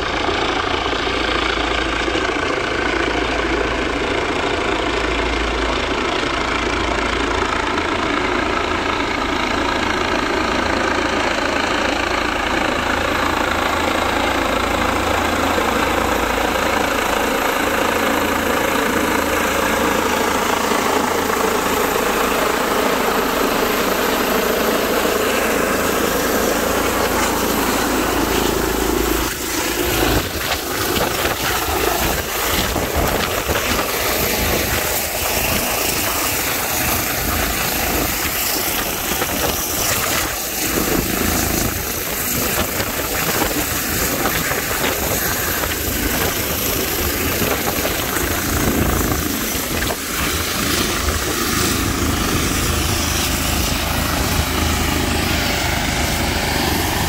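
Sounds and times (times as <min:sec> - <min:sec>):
helicopter rotor and turbine: 0:00.0 - 0:57.0.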